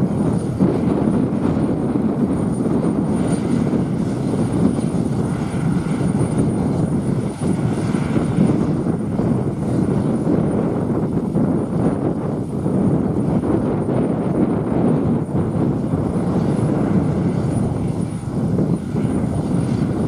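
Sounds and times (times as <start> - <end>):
combine harvester engine and threshing: 0.0 - 20.0.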